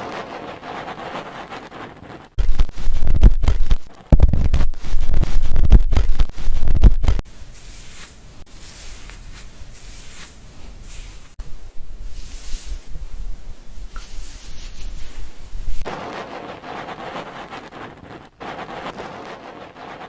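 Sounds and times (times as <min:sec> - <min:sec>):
hands scratching hair and scalp: 0:00.0 - 0:20.0.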